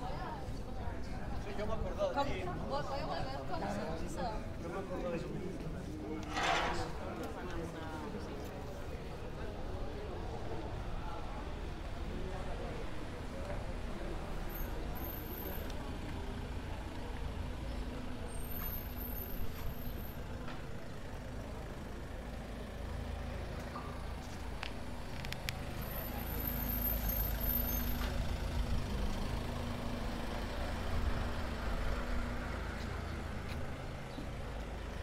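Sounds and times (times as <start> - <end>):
vehicle engine rumbling: 6.2 - 35.0.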